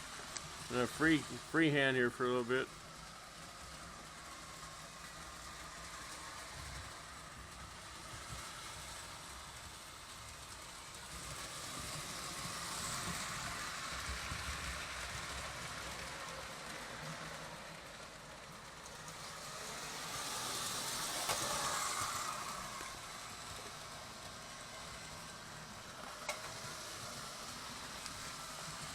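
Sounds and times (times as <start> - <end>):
toy train motor hum and wheel rumble: 0.0 - 28.9.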